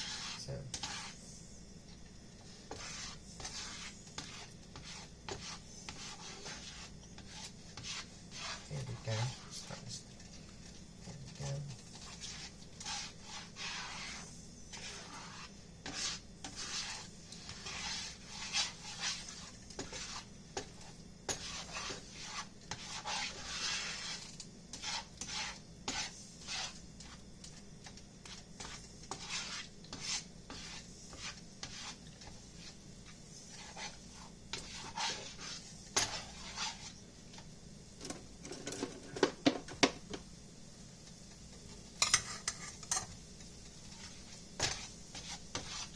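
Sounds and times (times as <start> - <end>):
utensil scraping a frying pan: 0.0 - 1.2, 2.4 - 27.2, 27.8 - 37.5, 42.0 - 45.9.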